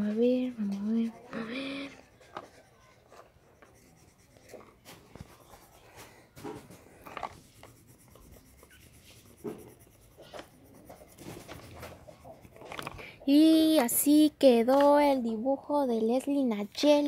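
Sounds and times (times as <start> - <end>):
pencil scratching on paper: 0.0 - 13.9.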